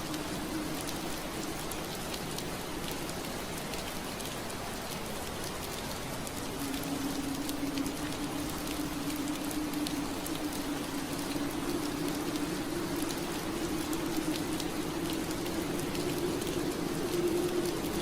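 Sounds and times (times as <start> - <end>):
rain on a window pane: 0.0 - 18.0.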